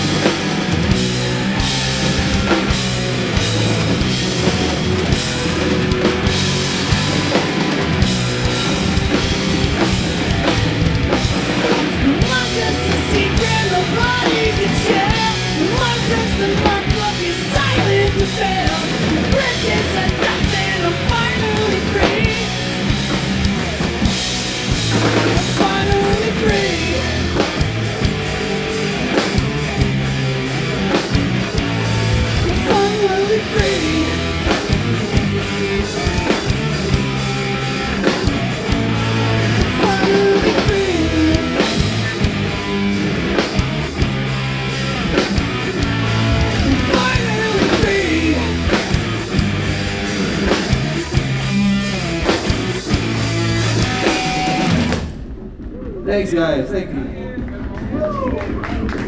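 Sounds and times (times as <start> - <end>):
bass: 0.0 - 59.0
drum kit beat: 0.0 - 59.0
electric guitars: 0.0 - 59.0.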